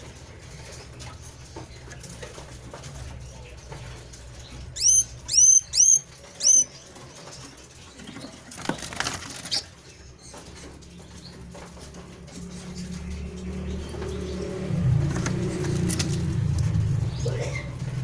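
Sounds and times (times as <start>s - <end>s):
cage bird chirping: 0.0s - 18.0s.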